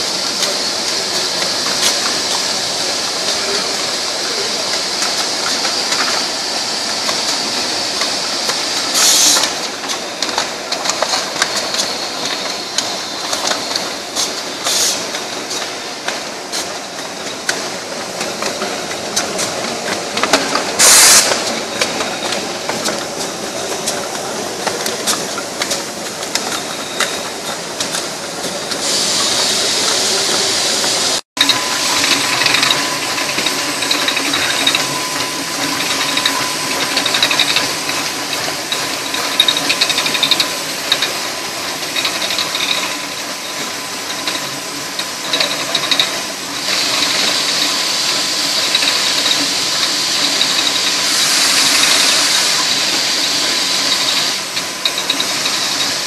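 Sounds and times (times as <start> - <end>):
machine hiss: 0.0 - 56.0
machine rattling: 0.0 - 56.0.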